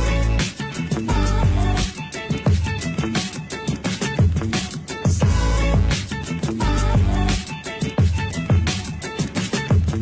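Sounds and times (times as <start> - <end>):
funky electronic music: 0.0 - 10.0
kick drum beat: 1.0 - 10.0.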